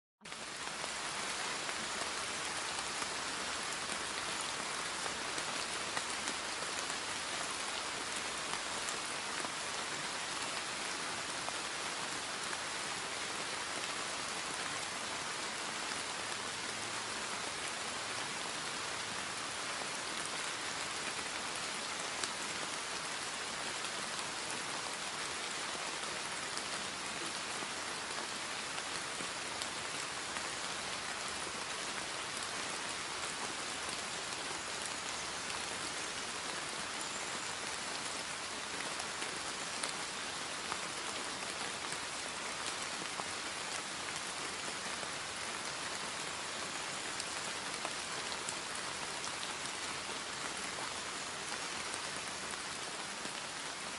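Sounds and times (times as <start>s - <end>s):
rain falling: 0.2s - 53.9s.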